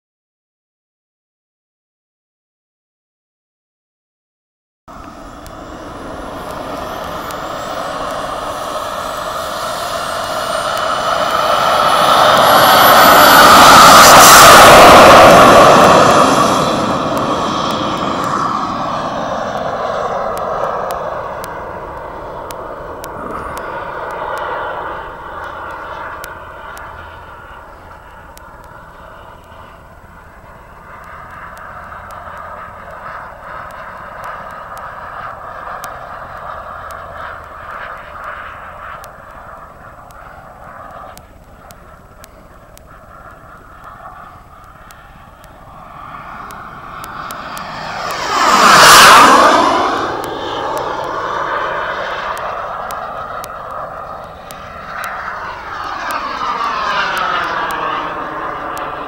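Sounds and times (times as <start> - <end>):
falling jet whine: 4.9 - 59.0
model jet engine rushing: 4.9 - 59.0.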